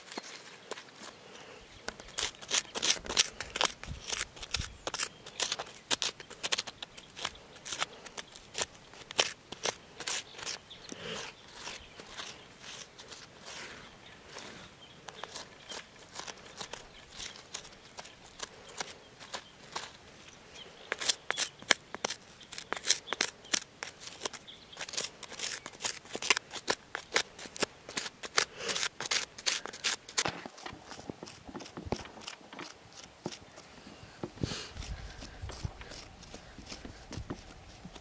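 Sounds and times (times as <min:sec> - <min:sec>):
crunching and scraping: 0:00.0 - 0:38.0.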